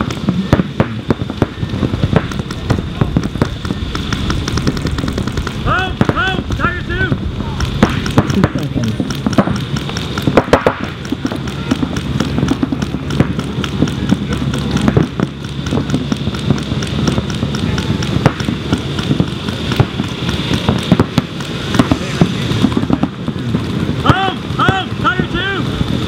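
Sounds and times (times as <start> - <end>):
paintball guns popping: 0.0 - 24.8.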